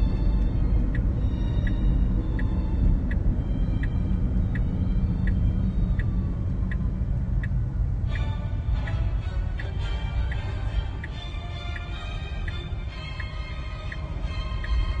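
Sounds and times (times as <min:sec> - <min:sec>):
road rumble inside car: 0:00.0 - 0:15.0
turn signal ticking: 0:00.0 - 0:15.0.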